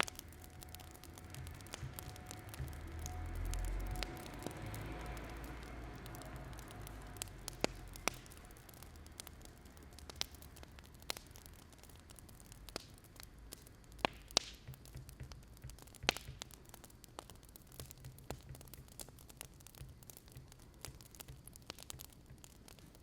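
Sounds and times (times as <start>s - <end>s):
faint low hiss: 0.0s - 23.0s
wood fire crackling: 0.0s - 23.0s.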